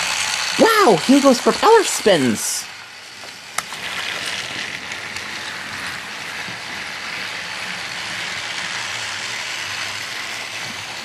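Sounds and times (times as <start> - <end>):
toy train motors whirring: 0.0 - 11.0
wheels rattling on plastic track: 0.0 - 11.0.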